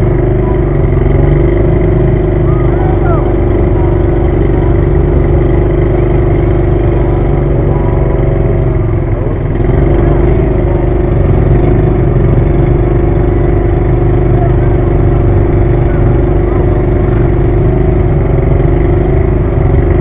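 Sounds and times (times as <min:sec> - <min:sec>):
engine running loudly: 0:00.0 - 0:20.0.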